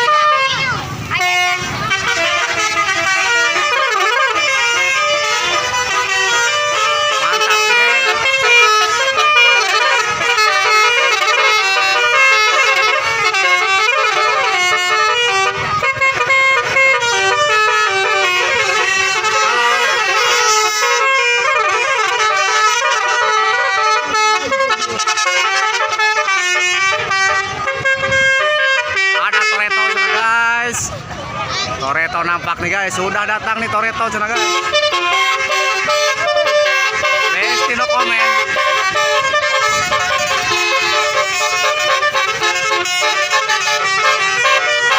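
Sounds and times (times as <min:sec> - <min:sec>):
musical air horn melody: 0:00.0 - 0:30.9, 0:33.2 - 0:44.9.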